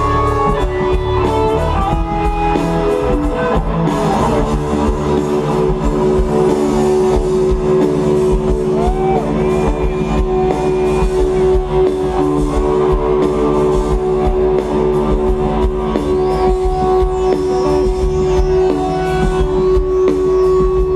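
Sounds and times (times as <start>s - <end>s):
drum kit playing: 0.0s - 20.9s
electric guitar playing: 0.0s - 20.9s.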